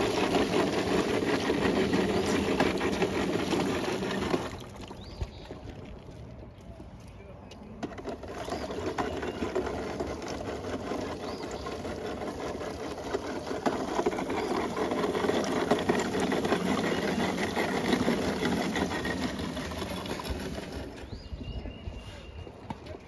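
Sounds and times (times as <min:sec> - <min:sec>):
foam roller crackling through water: 0:00.0 - 0:21.3.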